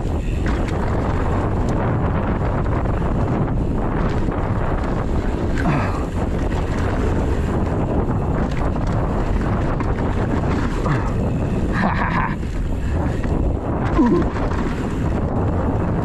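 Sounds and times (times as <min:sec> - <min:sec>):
bike frame and chain rattling: 0:00.0 - 0:16.0
bike tyres rumbling on dirt: 0:00.0 - 0:16.0
wind buffeting microphone: 0:00.0 - 0:16.0.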